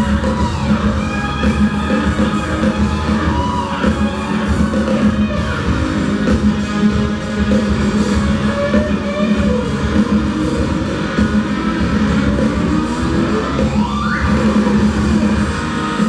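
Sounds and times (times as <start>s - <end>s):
live rock band: 0.0s - 16.0s
overdriven electric guitar: 0.0s - 16.0s.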